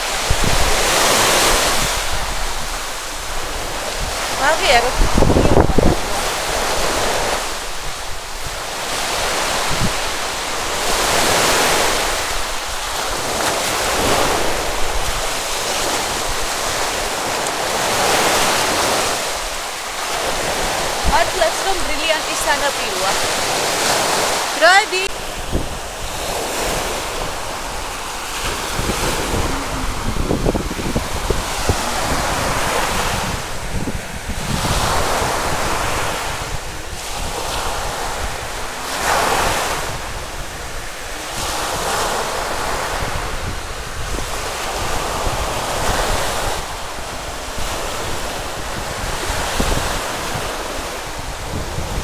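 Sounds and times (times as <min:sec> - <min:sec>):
small waves breaking on shore: 0:00.0 - 0:52.0
wind buffeting microphone: 0:00.0 - 0:52.0.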